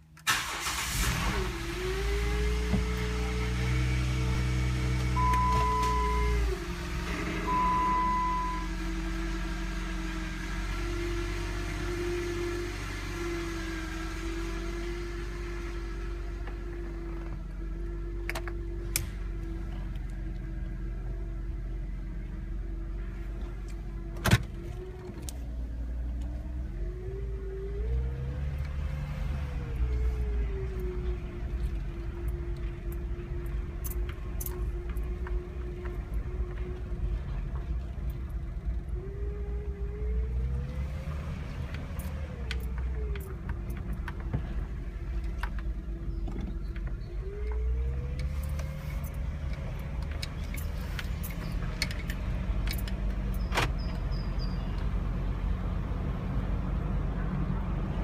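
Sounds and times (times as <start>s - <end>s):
low vehicle rumble: 0.0s - 58.0s
vehicle whine: 0.0s - 58.0s.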